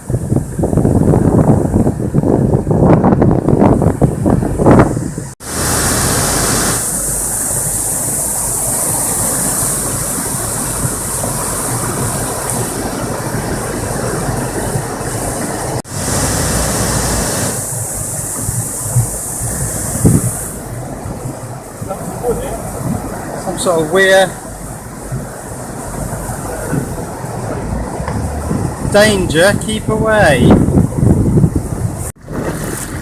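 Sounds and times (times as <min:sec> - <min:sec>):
rushing water and air: 0:00.0 - 0:33.0
motorboat engine running: 0:03.6 - 0:33.0.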